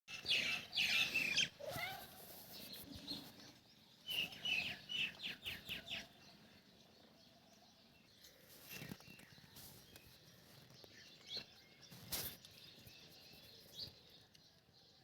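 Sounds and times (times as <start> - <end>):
bird chirping: 0.1 - 15.0.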